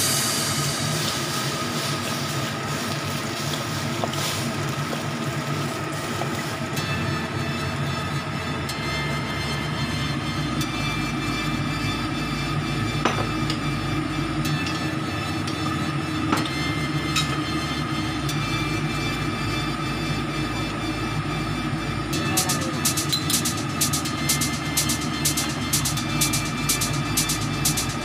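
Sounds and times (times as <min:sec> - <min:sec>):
mechanical drone with low rumble: 0:00.0 - 0:28.0.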